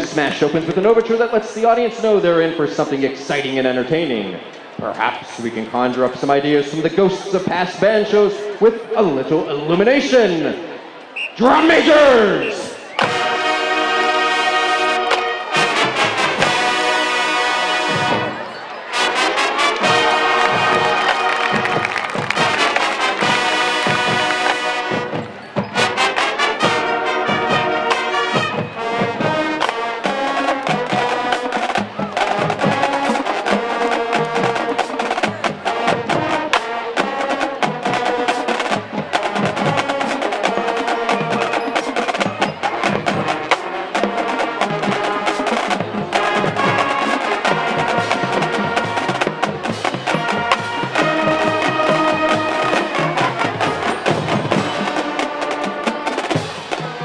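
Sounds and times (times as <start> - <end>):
brass and sousaphones holding chords: 0.0 - 57.0
marching band playing: 0.0 - 57.0
marching drums: 11.3 - 57.0.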